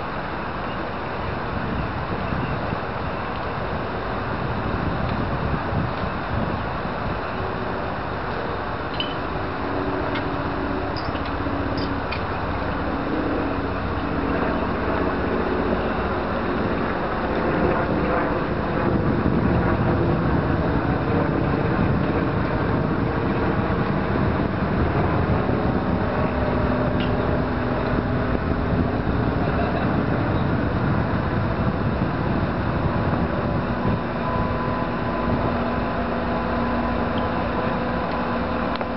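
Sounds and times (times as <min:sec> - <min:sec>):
distant traffic hum: 0:00.0 - 0:38.9
wind buffeting microphone: 0:00.0 - 0:38.9.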